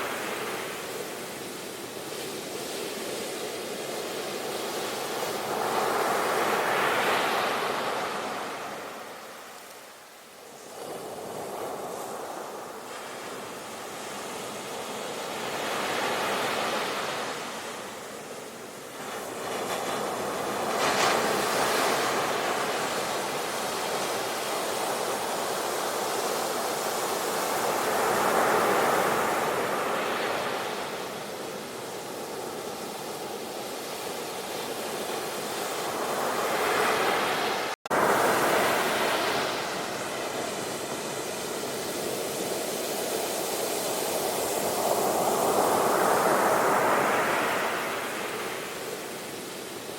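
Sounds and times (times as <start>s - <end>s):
sea waves washing ashore: 0.0s - 49.9s.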